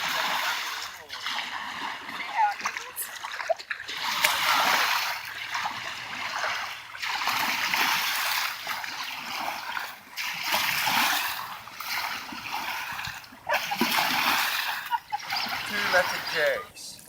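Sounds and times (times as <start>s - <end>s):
kayak paddle splashing: 0.0s - 17.0s.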